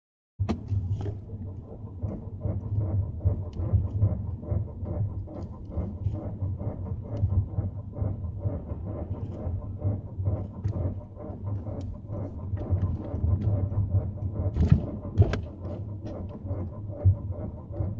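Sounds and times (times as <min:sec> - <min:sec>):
steady low hum: 0:00.4 - 0:17.9.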